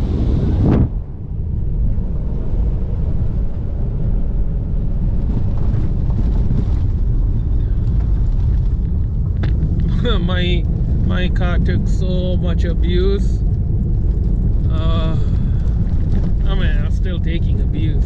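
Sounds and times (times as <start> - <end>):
tyres and suspension rumbling: 0.0 - 18.0.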